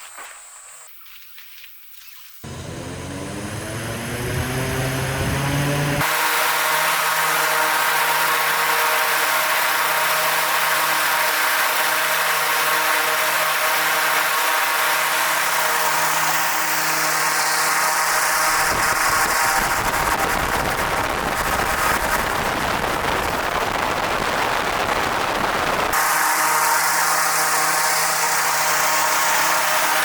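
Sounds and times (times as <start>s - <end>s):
blower rushing air: 2.4s - 30.0s.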